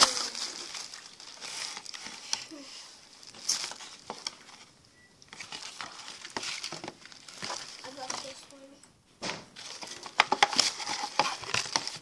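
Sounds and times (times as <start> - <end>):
cardboard box rustling: 0.0 - 4.7, 5.3 - 8.4, 9.6 - 12.0.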